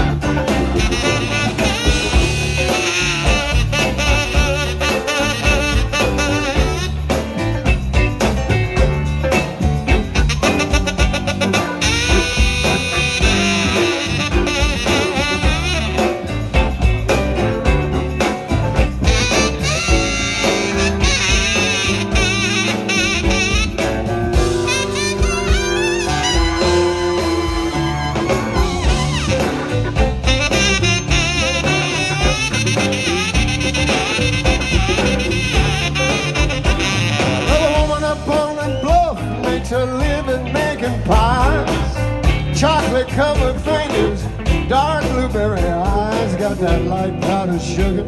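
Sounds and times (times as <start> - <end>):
horn lines: 0.0 - 39.3
bass: 0.0 - 48.0
drums: 0.0 - 48.0.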